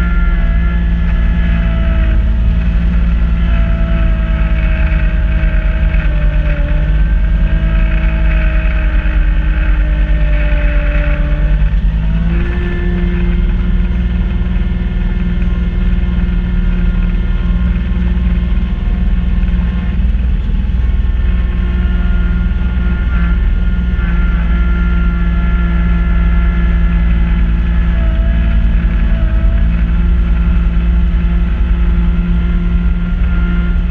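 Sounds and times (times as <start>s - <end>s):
snow blower whine: 0.0s - 33.9s
tractor diesel engine droning: 0.0s - 33.9s.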